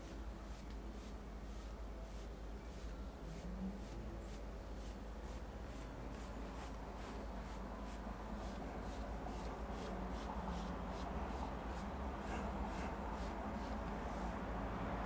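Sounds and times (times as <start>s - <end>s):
brush strokes on short hair: 0.0s - 15.0s.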